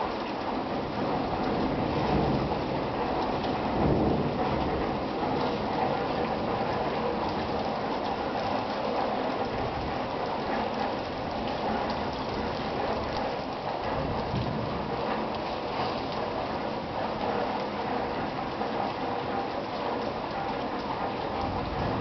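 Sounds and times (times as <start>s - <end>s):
steady rain falling: 0.0s - 22.0s
low rumble of thunder: 0.1s - 8.3s, 9.3s - 22.0s.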